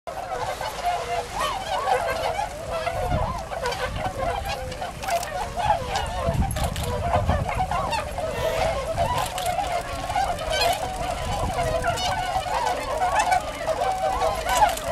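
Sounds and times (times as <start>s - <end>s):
swans honking: 0.1s - 14.9s.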